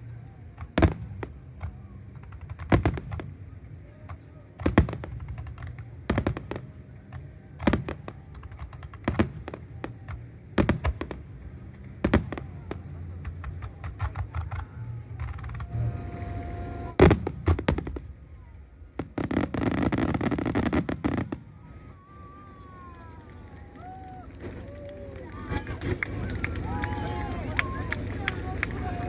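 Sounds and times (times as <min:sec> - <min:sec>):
firework crackling: 0:00.1 - 0:29.0.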